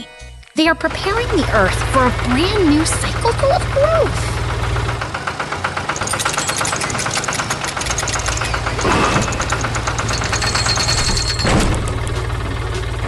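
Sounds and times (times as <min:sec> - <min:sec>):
tractor engine with ticking knock: 0:00.7 - 0:13.0.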